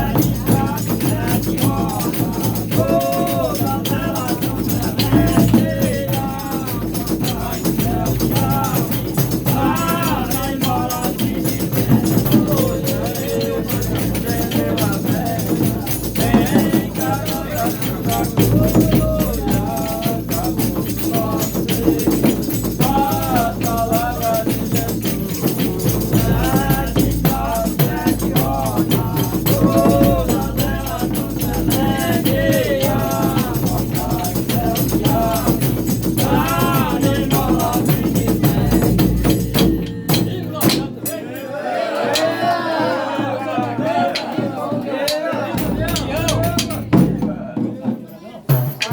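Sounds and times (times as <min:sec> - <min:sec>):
shaken and struck hand percussion: 0:00.0 - 0:48.9
voices singing: 0:00.0 - 0:48.9.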